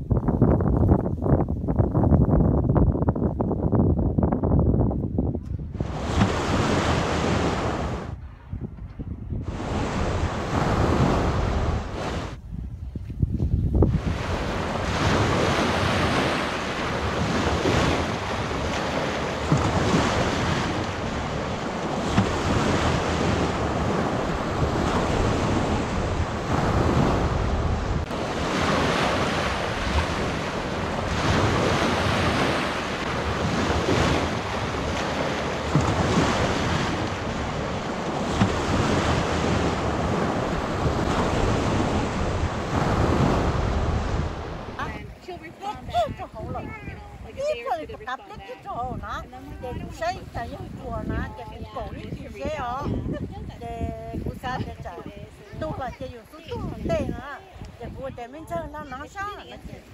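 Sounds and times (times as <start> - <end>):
wind buffeting microphone: 0.0 - 59.9
waves washing onto shore: 5.6 - 8.2, 9.4 - 12.4, 13.8 - 59.9.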